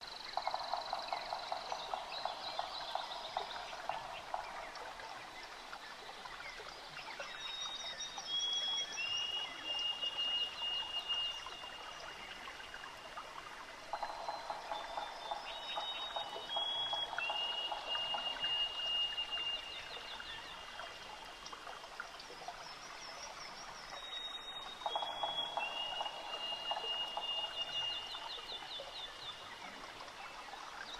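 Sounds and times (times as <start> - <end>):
trickling water: 0.0 - 30.9.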